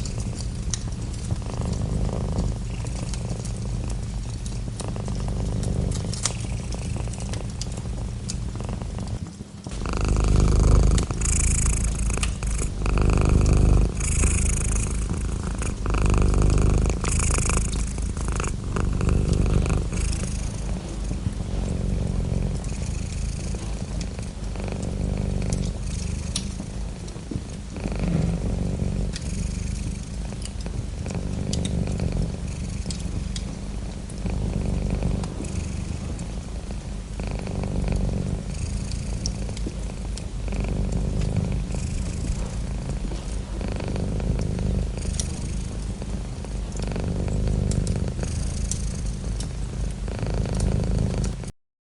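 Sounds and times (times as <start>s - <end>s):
cat purring: 0.0s - 51.5s
wood fire crackling: 0.0s - 51.5s.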